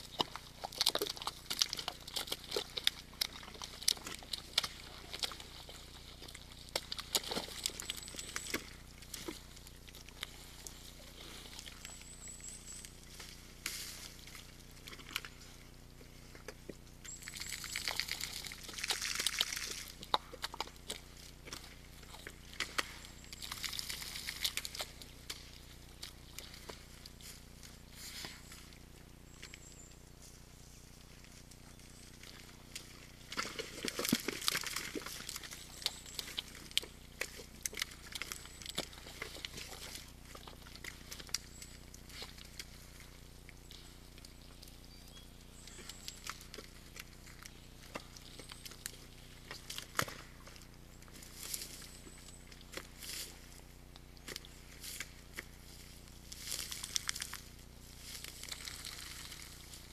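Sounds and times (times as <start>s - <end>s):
faint low hum: 0.0s - 59.9s
mud squelching and splashing: 0.0s - 59.9s.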